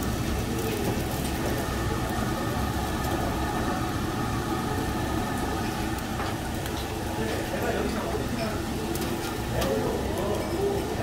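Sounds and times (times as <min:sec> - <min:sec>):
extraction fan droning: 0:00.0 - 0:11.0.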